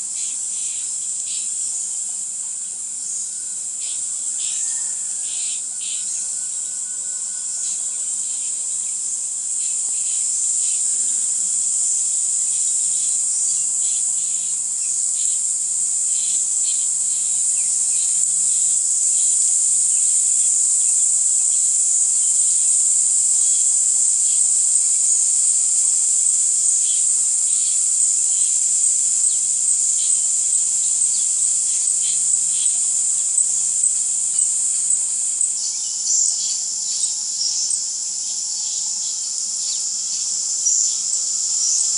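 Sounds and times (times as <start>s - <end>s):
insects buzzing: 0.0s - 41.9s.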